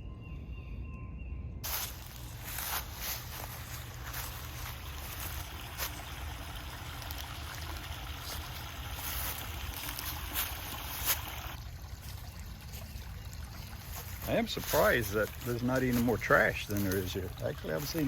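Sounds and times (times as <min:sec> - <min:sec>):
creek babbling over rocks: 0:02.0 - 0:18.0.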